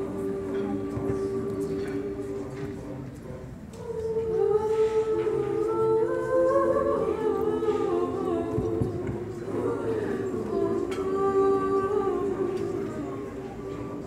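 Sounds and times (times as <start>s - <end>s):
youth choir singing a cappella: 0.0s - 14.0s.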